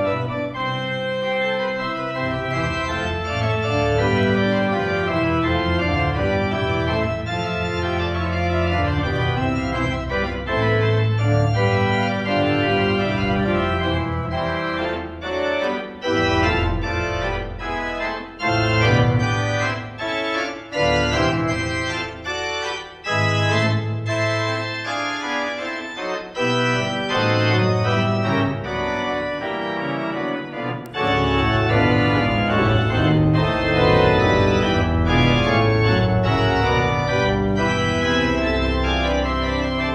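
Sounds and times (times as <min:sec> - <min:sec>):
pipe organ playing a fugue: 0:00.0 - 0:39.9.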